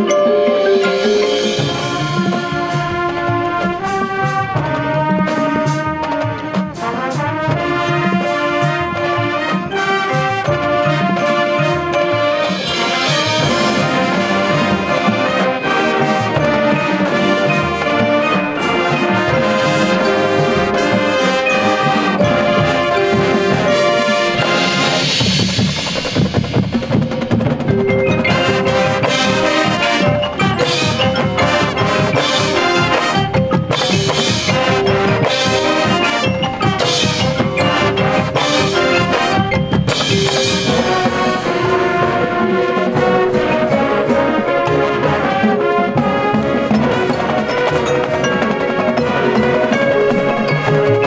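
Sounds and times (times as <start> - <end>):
drumline: 0.0 - 51.0
marching band brass: 0.0 - 51.0
marimbas: 0.0 - 51.0
sharp percussion hits: 0.0 - 51.0.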